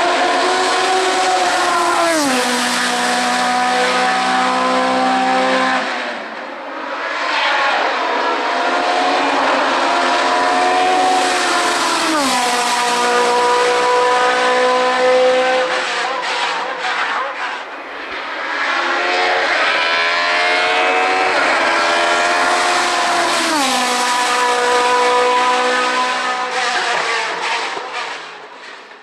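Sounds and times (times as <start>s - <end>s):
race car engine at high revs: 0.0s - 29.0s.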